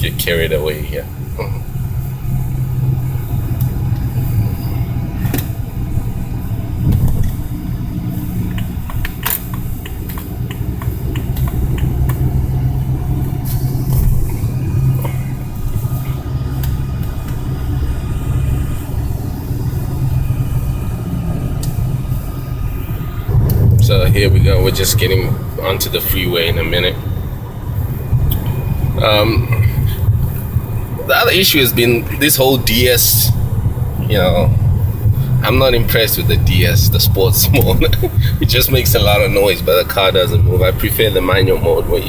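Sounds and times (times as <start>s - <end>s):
diesel engine hum in cabin: 0.0s - 42.0s
road rumble: 0.0s - 42.0s.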